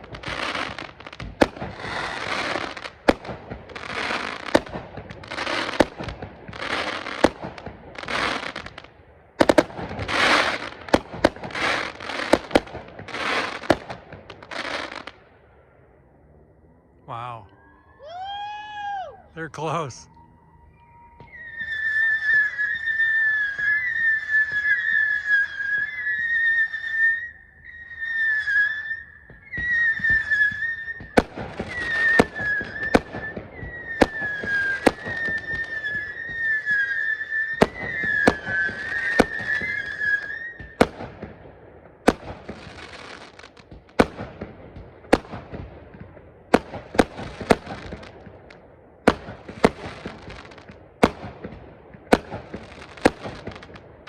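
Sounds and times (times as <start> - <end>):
firework bangs with crackle: 0.0 - 15.2, 21.2 - 54.0
whistling fireworks: 0.0 - 54.0.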